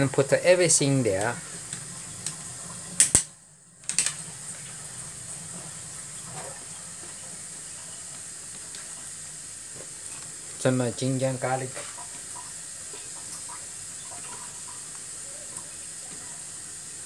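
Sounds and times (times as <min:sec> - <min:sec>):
pot boiling with bubbling hiss: 0:00.0 - 0:17.0.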